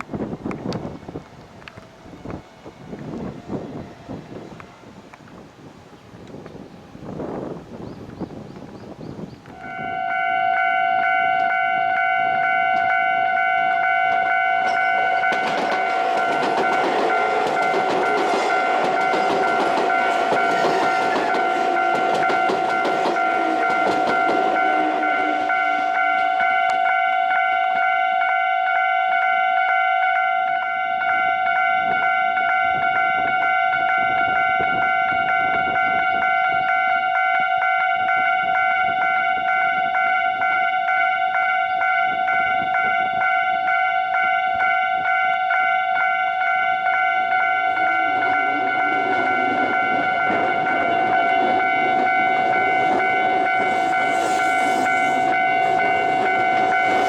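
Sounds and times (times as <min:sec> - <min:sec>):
train rumble: 0:00.0 - 0:29.8, 0:30.6 - 0:57.0
railway warning bell ringing: 0:09.5 - 0:57.0.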